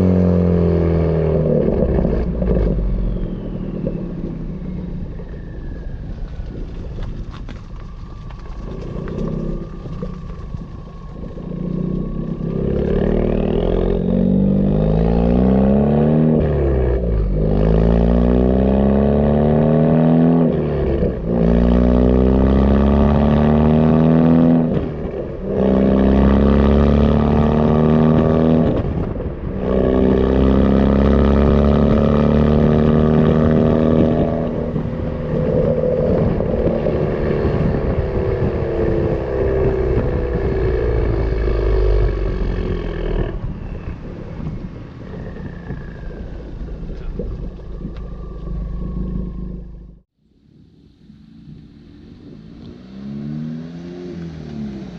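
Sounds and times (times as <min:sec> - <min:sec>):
car engine accelerating through gears: 0:00.0 - 0:50.1, 0:51.0 - 0:54.9.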